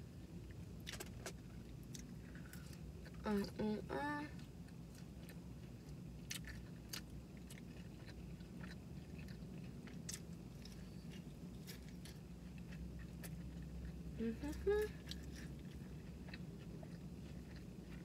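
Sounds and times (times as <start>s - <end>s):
low steady hum: 0.0s - 18.0s
close chewing of crispy food: 0.4s - 3.7s, 4.3s - 18.0s.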